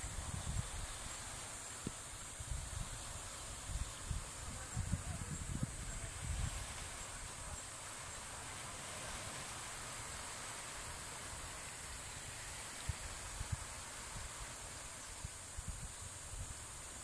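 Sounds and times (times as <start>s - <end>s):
high insect drone: 0.0s - 17.0s
soft hiss: 0.0s - 17.0s.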